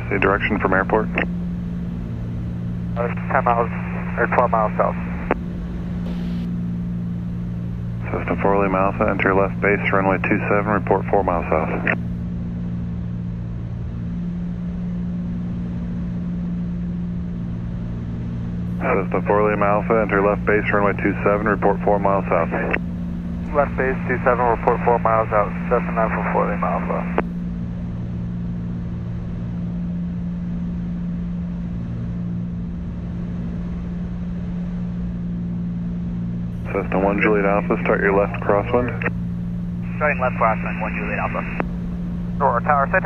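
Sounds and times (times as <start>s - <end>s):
propeller plane engine drone: 0.0s - 43.0s.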